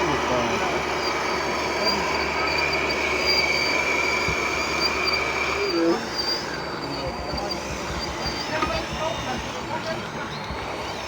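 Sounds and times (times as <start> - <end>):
model motor whine: 0.0 - 11.0.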